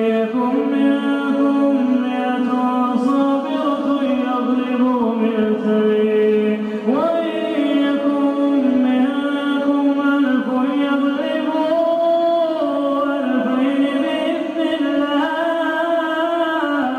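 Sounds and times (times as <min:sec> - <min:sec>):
man chanting melodically: 0:00.0 - 0:16.9.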